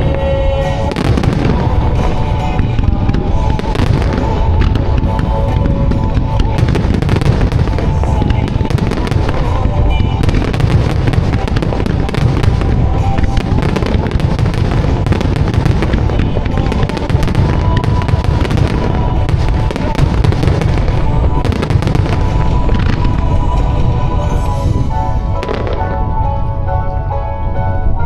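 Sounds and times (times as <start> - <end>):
fireworks bursting and crackling: 0.0 - 26.4
music over loudspeakers: 0.0 - 28.0.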